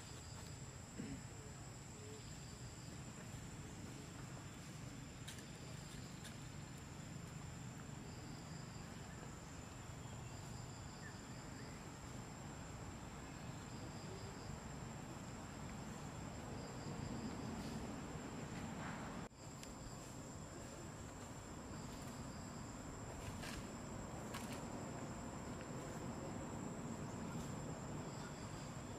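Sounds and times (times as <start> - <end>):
insect lower buzz: 0.0 - 28.9
insects high whine: 0.0 - 28.9.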